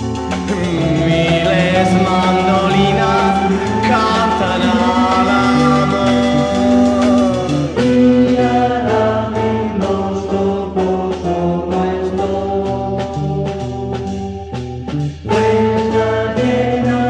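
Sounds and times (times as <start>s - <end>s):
pop-rock band instrumental: 0.0s - 17.0s.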